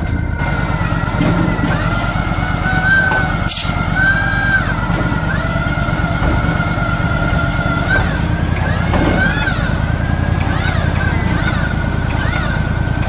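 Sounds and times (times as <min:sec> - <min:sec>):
engine running: 0:00.0 - 0:13.0
high whine: 0:00.0 - 0:13.0.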